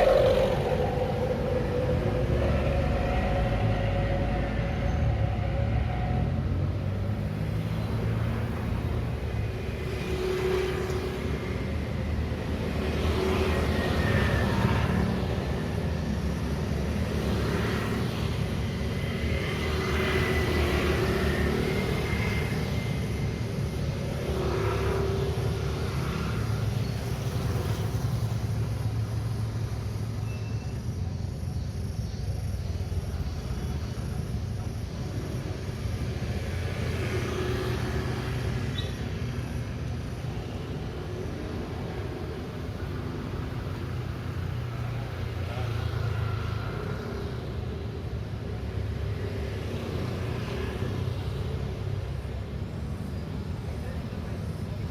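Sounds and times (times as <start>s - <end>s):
low rumble of engines: 0.0s - 54.9s
vehicles passing close by: 0.0s - 54.9s.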